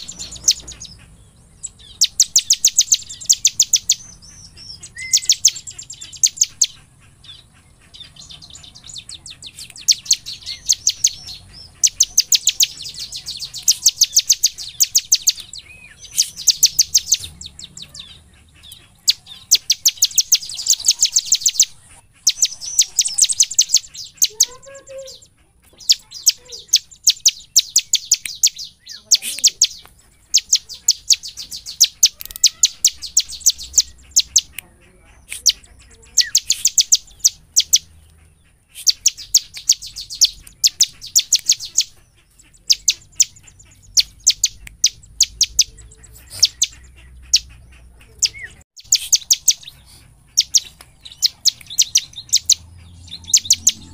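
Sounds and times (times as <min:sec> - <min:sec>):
bird song with sharp high notes: 0:00.0 - 0:53.9.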